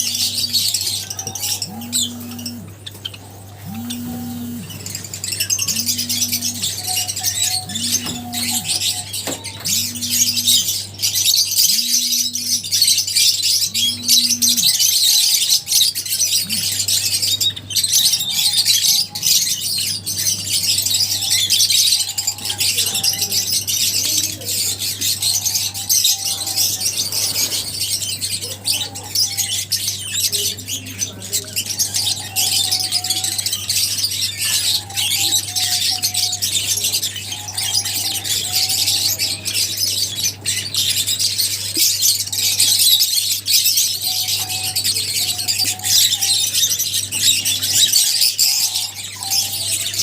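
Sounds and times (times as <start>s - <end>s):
lovebirds chirping: 0.0s - 50.0s
steady low hum: 0.0s - 50.0s.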